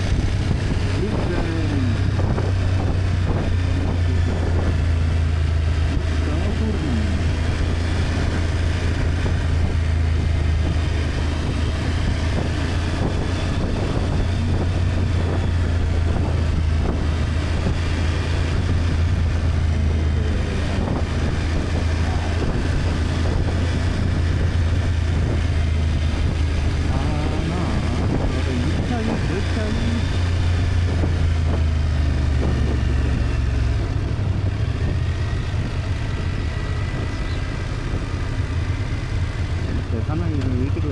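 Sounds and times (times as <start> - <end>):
motorcycle engine cruising: 0.0 - 40.9
wind noise on microphone: 0.0 - 40.9.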